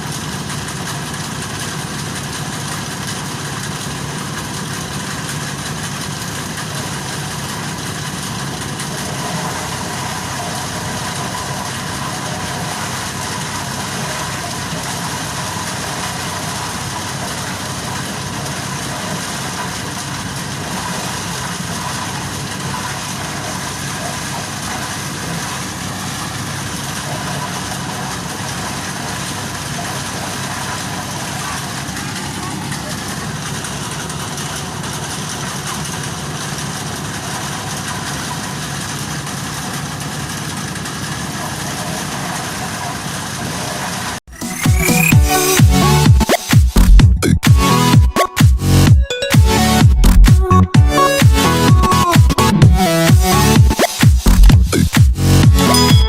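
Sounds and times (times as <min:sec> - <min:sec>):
threshing machine running: 0:00.0 - 0:56.0.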